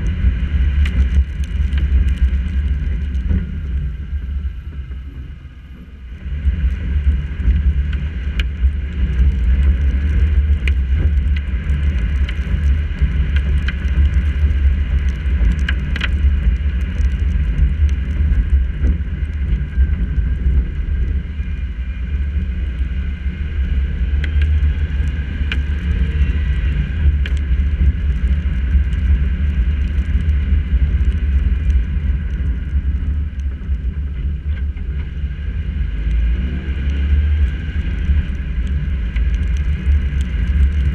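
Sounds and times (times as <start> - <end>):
raindrops ticking on camera: 0.0 - 5.0, 6.1 - 40.9
car driving rumble: 0.0 - 40.9.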